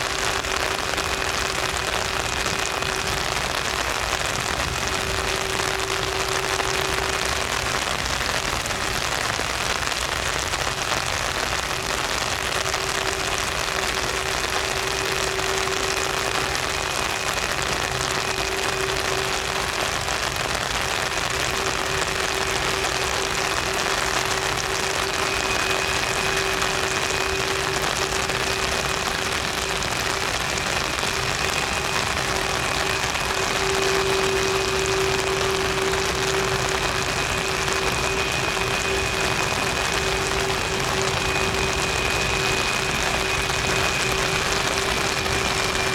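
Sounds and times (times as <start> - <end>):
high engine whine: 0.0 - 45.9
jet engines running: 0.0 - 45.9.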